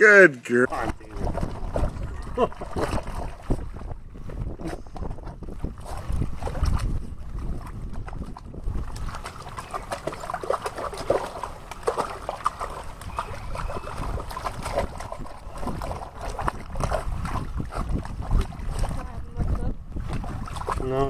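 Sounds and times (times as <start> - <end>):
water sloshing: 0.6 - 21.0
dog splashing in water: 0.7 - 3.7, 5.5 - 21.0.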